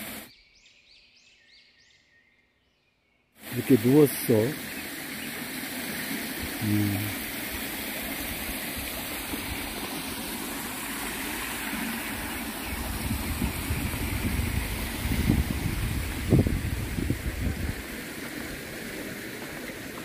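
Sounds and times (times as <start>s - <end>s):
water rushing over rocks: 3.4s - 20.0s.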